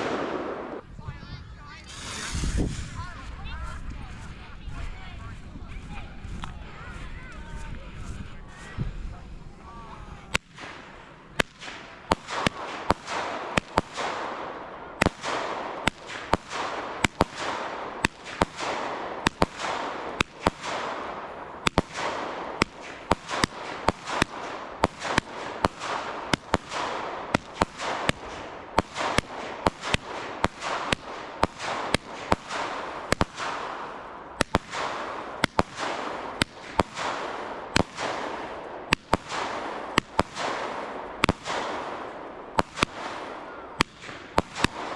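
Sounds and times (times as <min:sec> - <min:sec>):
fireworks banging and crackling: 0:00.0 - 0:44.9.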